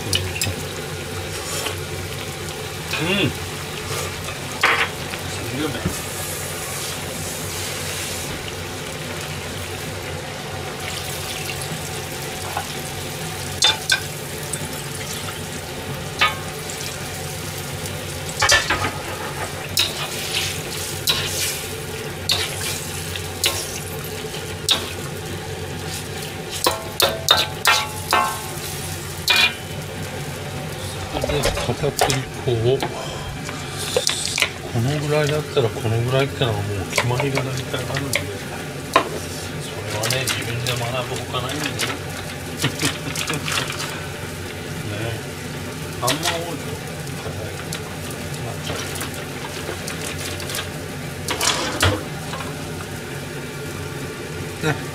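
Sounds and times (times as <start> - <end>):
broth sizzling and simmering in a wok: 0.0 - 54.9.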